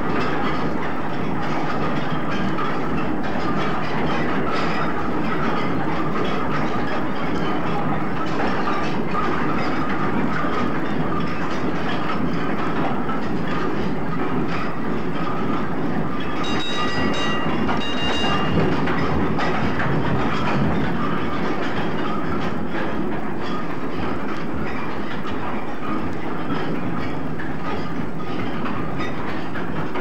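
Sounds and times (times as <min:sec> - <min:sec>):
machinery running with rhythmic clatter: 0:00.0 - 0:30.0.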